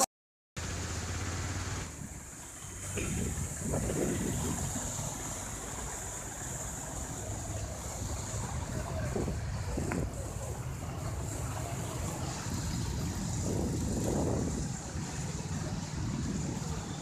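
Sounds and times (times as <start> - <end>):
stream water rushing: 0.6 - 17.0.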